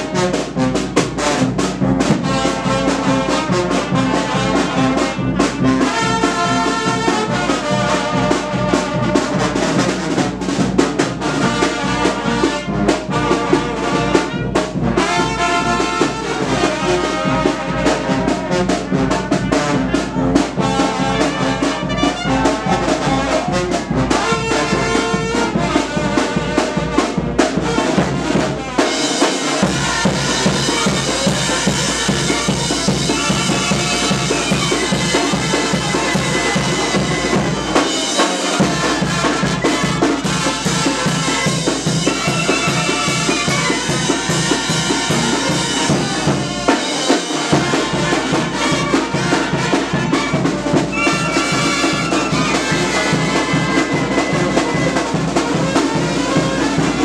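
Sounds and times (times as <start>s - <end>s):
brass band playing loudly: 0.0s - 57.0s
steady drum beat: 0.0s - 57.0s.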